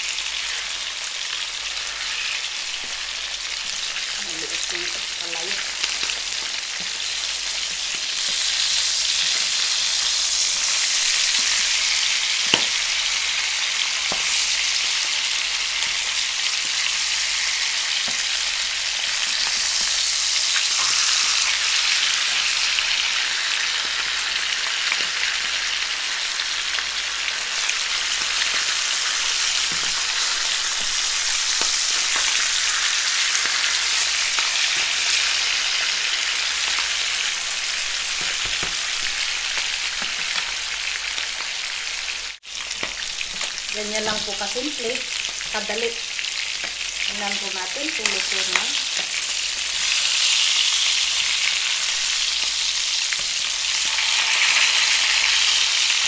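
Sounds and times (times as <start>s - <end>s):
fish sizzling in a frying pan: 0.0s - 56.0s.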